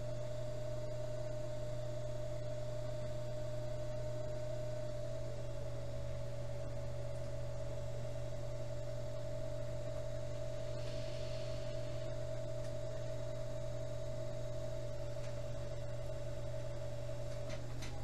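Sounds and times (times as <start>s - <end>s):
potter's wheel motor humming: 0.0s - 18.0s.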